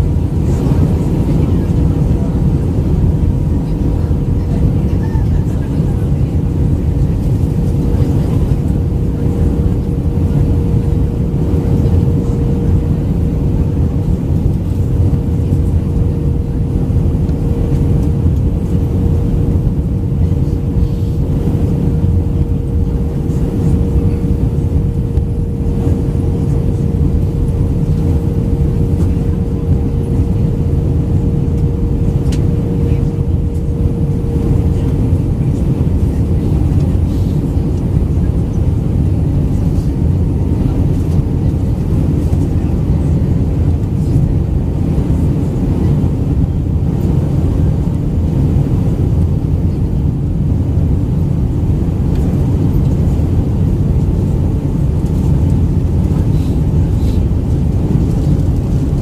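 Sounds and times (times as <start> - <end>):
airplane cabin rumble: 0.0 - 59.0
constant humming tone: 0.0 - 59.0.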